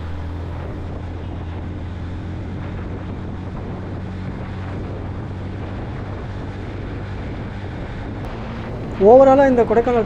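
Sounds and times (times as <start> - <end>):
motorcycle engine drone: 0.0 - 10.0
wind on microphone: 0.0 - 10.0.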